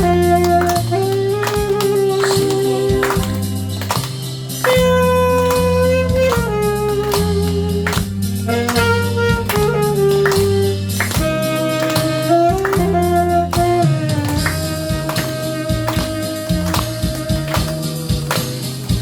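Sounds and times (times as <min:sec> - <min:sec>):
bass and drums: 0:00.0 - 0:19.0
saxophone melody: 0:00.0 - 0:19.0.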